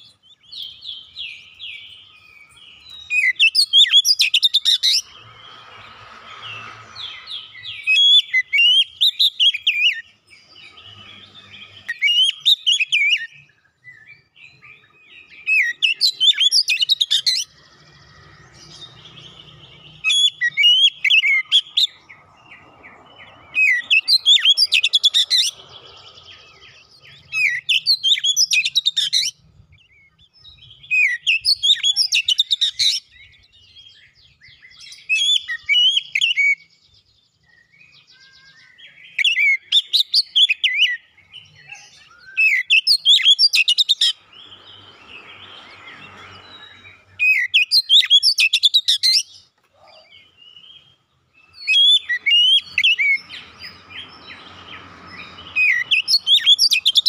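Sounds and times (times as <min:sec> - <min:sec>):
bird singing whistled phrases: 0:00.0 - 0:05.2, 0:06.4 - 0:17.6, 0:23.2 - 0:36.8, 0:37.4 - 0:54.4, 0:55.2 - 0:57.0.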